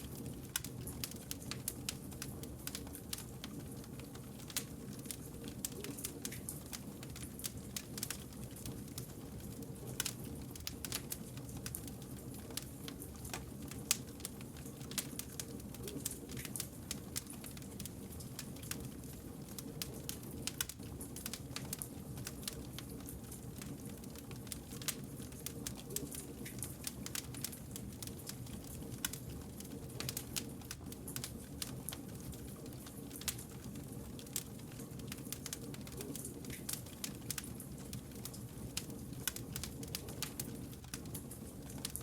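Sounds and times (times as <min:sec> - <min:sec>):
low rumble of flames: 0:00.0 - 0:42.0
wood fire crackling: 0:00.0 - 0:42.0.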